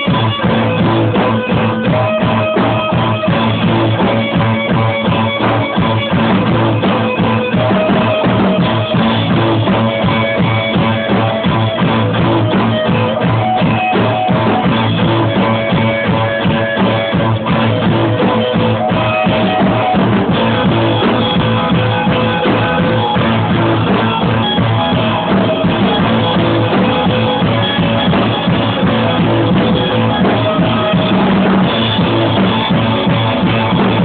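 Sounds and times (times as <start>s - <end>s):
amplified guitar: 0.0s - 34.0s
drum kit with cymbals: 0.0s - 34.0s
rock band playing: 0.0s - 34.0s.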